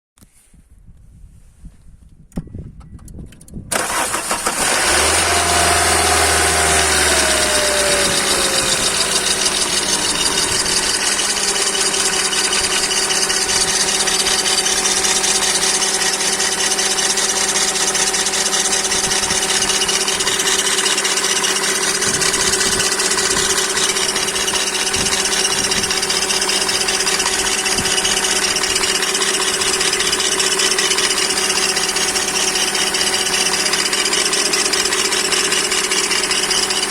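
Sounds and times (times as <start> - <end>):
car engine starting and idling: 3.7 - 36.9.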